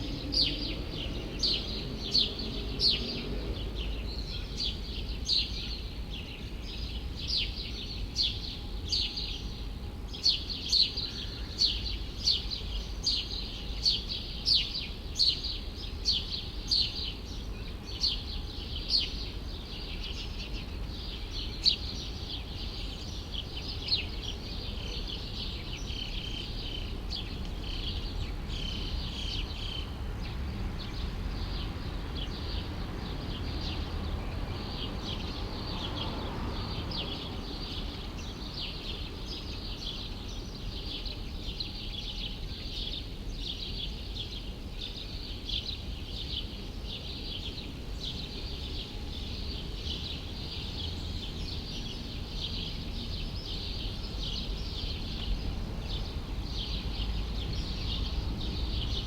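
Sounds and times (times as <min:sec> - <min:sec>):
low city rumble: 0:00.0 - 0:59.0
small birds chirping: 0:00.0 - 0:59.0.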